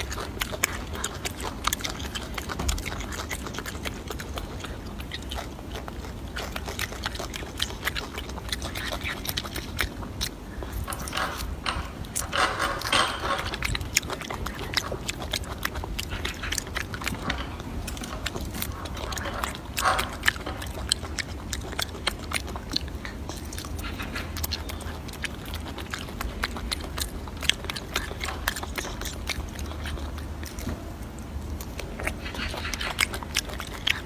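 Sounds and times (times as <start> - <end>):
monkey chewing fruit: 0.0 - 34.0.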